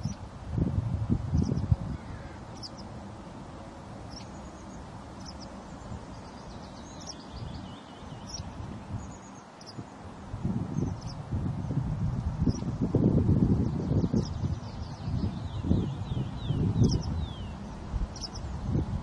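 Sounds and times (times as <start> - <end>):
small birds chirping: 0.0 - 0.2, 1.3 - 3.1, 4.0 - 11.8, 12.4 - 12.8, 13.4 - 19.0
wind rumble on microphone: 0.0 - 4.4, 5.2 - 19.0.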